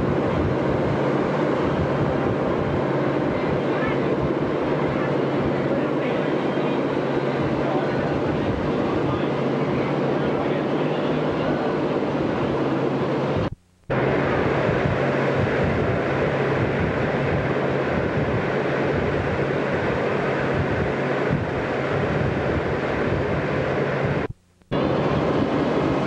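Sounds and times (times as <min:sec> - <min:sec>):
wind on microphone: 0:00.0 - 0:06.0, 0:06.8 - 0:10.1, 0:11.2 - 0:26.0
boat engine running: 0:00.0 - 0:26.0
low steady hum: 0:00.0 - 0:26.0.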